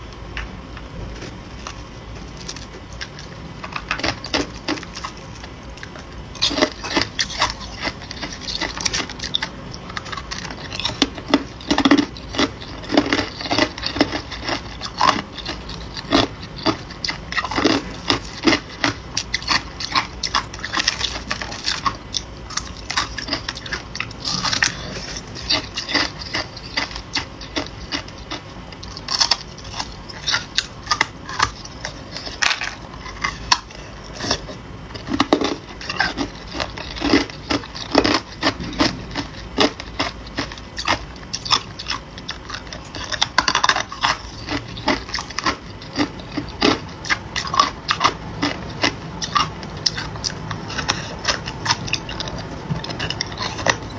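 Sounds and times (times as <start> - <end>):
person chewing ice: 1.1 - 53.9.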